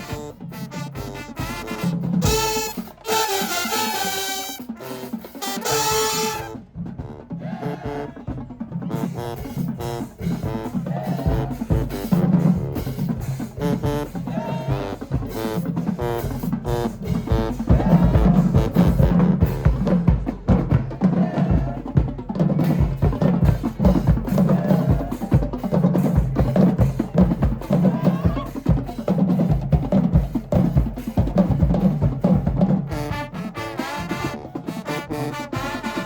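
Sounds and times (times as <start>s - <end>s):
marching band horns: 0.0s - 36.0s
snare and bass drums: 0.0s - 36.0s.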